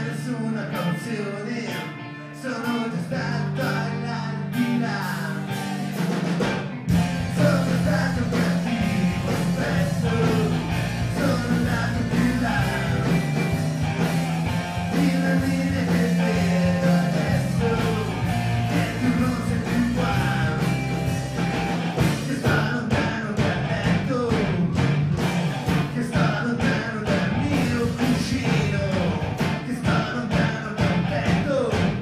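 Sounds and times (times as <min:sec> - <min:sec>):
person singing: 0:00.0 - 0:06.0, 0:06.9 - 0:13.7, 0:14.6 - 0:21.4, 0:22.0 - 0:24.9, 0:25.7 - 0:32.0
electric guitars: 0:00.0 - 0:32.0
heavy bass and drums: 0:04.6 - 0:32.0.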